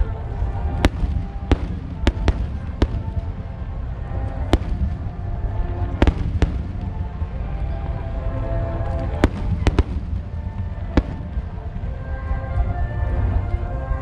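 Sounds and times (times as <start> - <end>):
low rumble of fireworks: 0.0 - 14.0
fireworks bangs: 0.4 - 8.0, 8.8 - 12.7.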